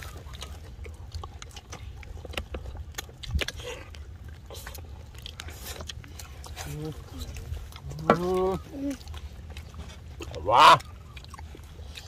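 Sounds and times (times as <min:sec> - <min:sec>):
people chewing and smacking: 0:00.0 - 0:12.0.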